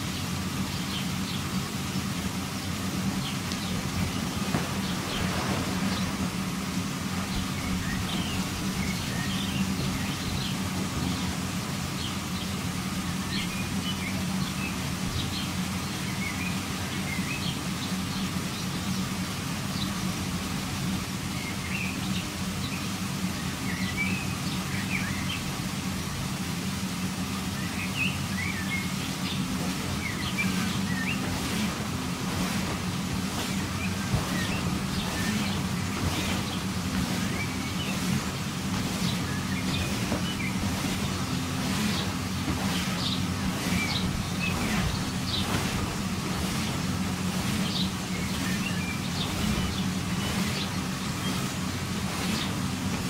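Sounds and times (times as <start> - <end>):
birds chirping: 0.0 - 53.0
inflation blower humming: 0.0 - 53.0.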